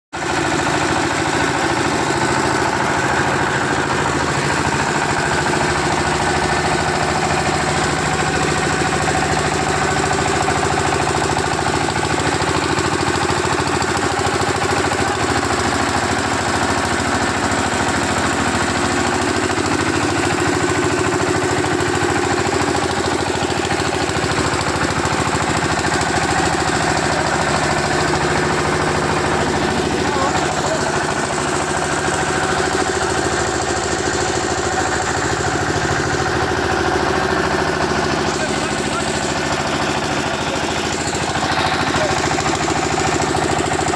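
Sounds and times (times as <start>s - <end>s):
diesel engine clattering: 0.2s - 43.9s.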